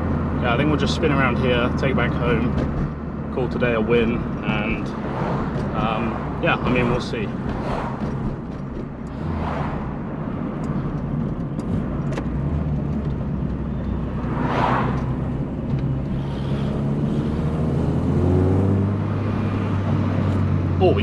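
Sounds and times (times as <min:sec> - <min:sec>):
car engine running: 0:00.0 - 0:21.0
tyre and road noise: 0:00.0 - 0:21.0.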